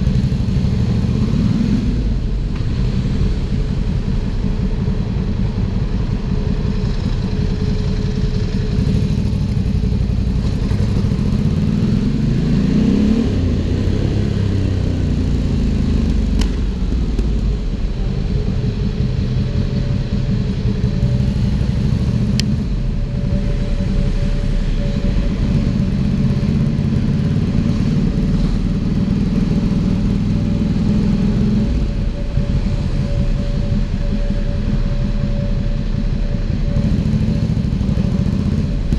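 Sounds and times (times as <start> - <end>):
motorcycle engine revving: 6.8 - 38.9.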